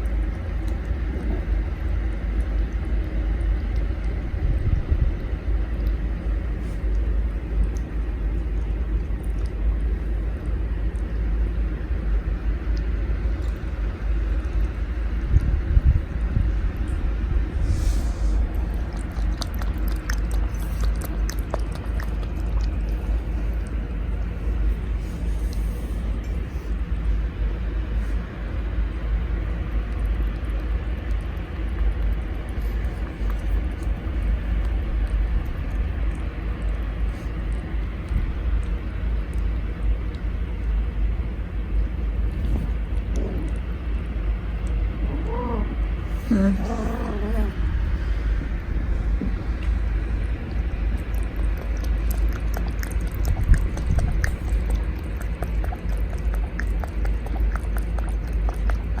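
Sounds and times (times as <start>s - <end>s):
cat lapping milk: 0.0s - 45.0s, 45.9s - 59.0s
low rumbling noise: 0.0s - 59.0s.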